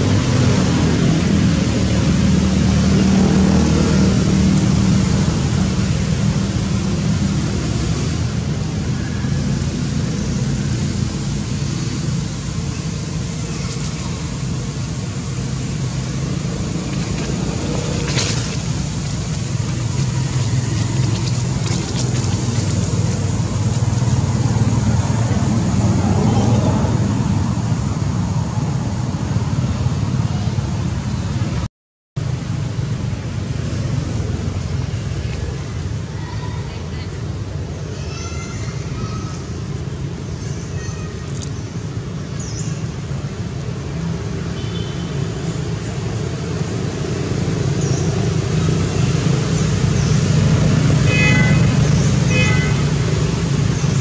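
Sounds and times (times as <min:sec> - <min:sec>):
low rumbling background noise: 0:00.0 - 0:54.0.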